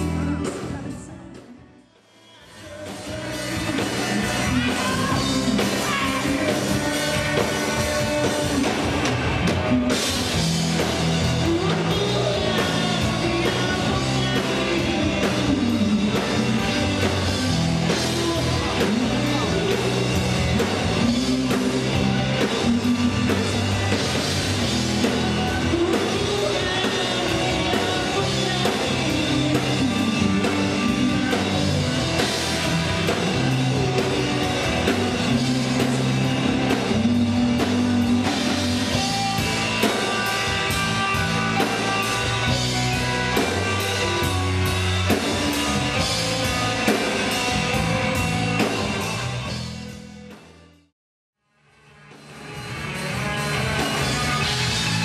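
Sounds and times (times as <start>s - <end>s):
rock music with singing: 0.0s - 50.9s, 51.8s - 55.0s.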